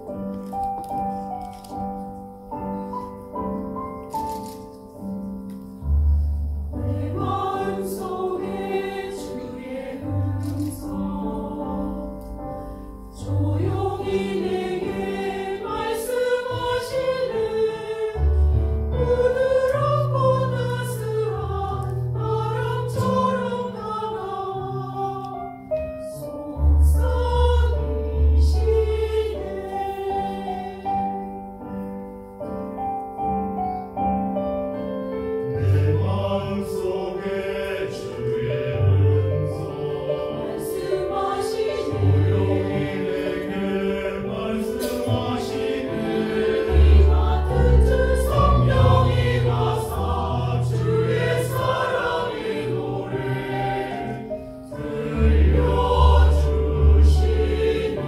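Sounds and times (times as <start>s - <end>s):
piano accompaniment: 0.0s - 58.0s
choir singing: 6.7s - 32.0s, 35.5s - 58.0s.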